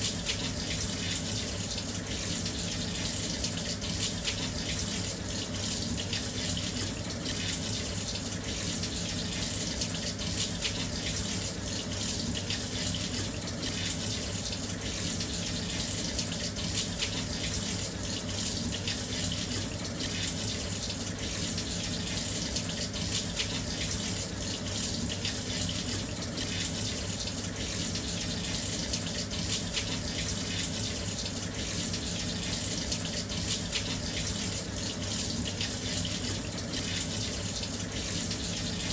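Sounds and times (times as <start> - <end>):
water rushing into washing machine: 0.0 - 38.9.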